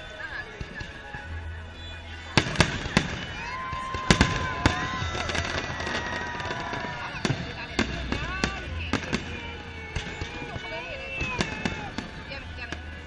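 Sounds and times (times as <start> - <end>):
fireworks bangs: 2.2 - 13.0.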